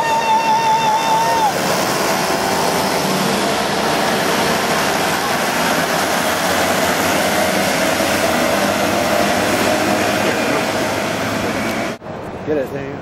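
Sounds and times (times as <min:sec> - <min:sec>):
moped engines passing: 0:00.7 - 0:12.0.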